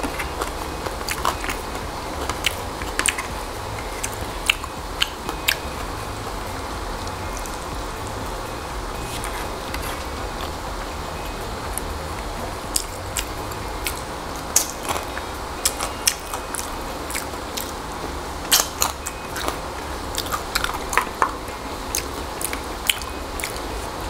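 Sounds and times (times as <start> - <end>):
person chewing crunchy food: 0.0 - 8.0, 8.8 - 11.9, 12.7 - 17.8, 18.5 - 23.7
steady low hum: 0.0 - 24.0.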